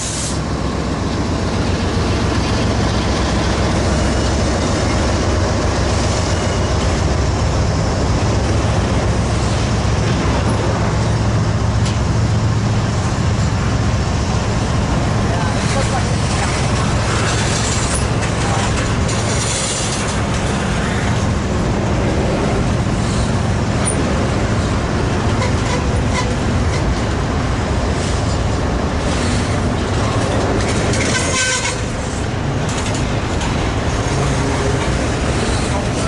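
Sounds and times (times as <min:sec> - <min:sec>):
freight train cars rolling past: 0:00.0 - 0:36.0.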